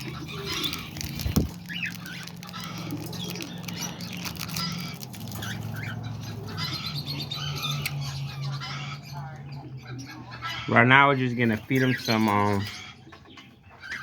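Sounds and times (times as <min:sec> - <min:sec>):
small parrots chirping and chattering: 0:00.0 - 0:14.0.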